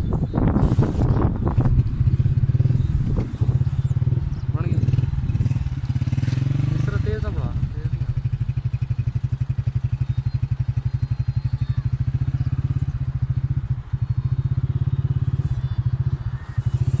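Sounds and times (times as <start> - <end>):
vehicle engine throbbing: 0.0 - 17.0.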